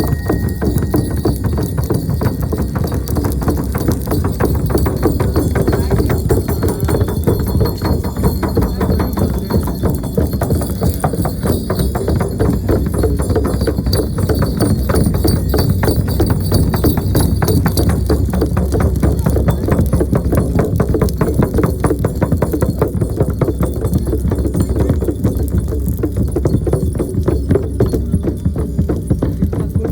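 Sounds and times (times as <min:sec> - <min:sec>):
frame drum beaten rapidly: 0:00.0 - 0:29.9
metal bells jingling: 0:00.0 - 0:29.9.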